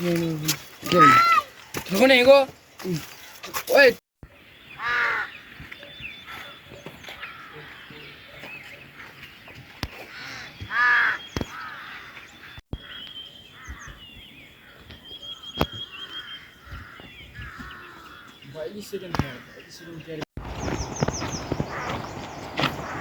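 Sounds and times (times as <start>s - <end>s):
bird calling: 4.2s - 23.0s.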